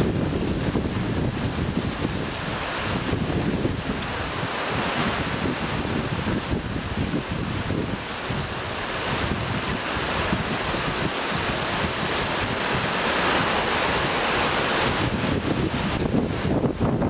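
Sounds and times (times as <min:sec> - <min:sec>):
heavy rain falling: 0:00.0 - 0:17.0
wind buffeting microphone: 0:00.0 - 0:17.0.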